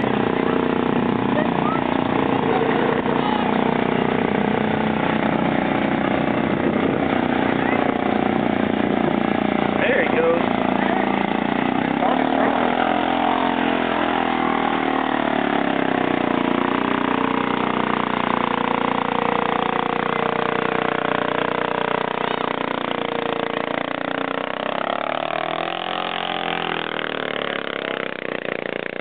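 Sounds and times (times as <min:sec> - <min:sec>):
atv engine labouring in mud: 0:00.0 - 0:29.0.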